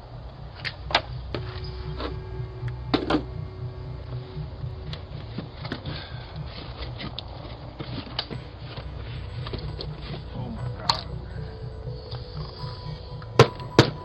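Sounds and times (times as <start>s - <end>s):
low microphone hum: 0.0s - 14.0s.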